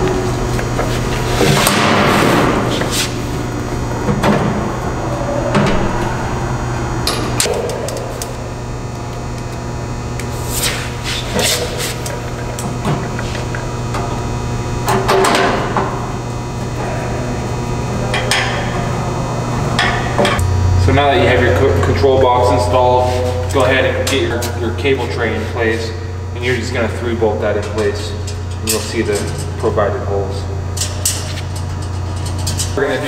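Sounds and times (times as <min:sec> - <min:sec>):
low hum: 0:00.0 - 0:32.8.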